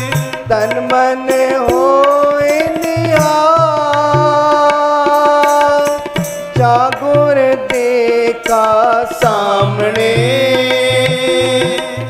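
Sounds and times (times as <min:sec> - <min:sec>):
harmoniums: 0:00.0 - 0:12.0
person singing: 0:00.0 - 0:12.0
tabla rhythm: 0:00.0 - 0:12.0.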